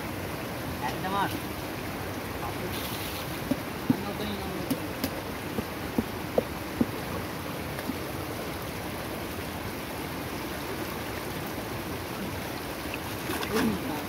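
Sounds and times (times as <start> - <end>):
fast-flowing stream water: 0.0 - 14.0.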